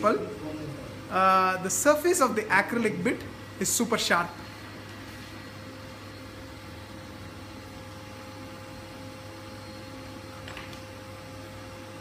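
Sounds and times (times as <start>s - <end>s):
faint whine and hiss: 0.0s - 12.0s.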